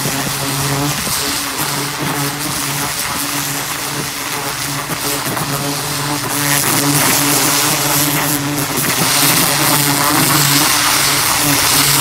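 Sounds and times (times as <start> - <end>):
high-pressure water jet hissing: 0.0 - 12.0
pressure washer motor drone: 0.0 - 12.0.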